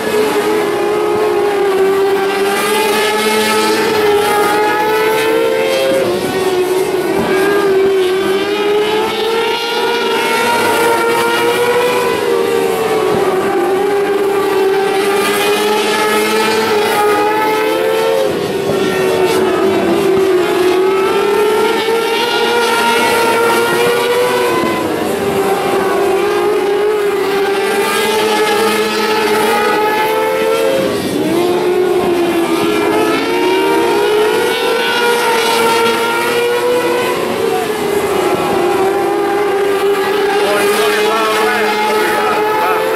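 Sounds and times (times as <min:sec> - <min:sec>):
racing car engines at high revs: 0:00.0 - 0:42.9.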